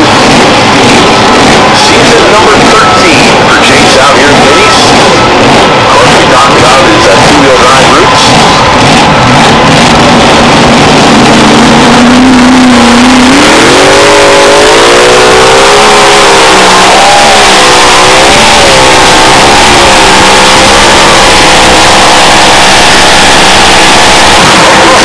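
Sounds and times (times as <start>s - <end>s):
tractor engine at full throttle: 0.0s - 25.0s.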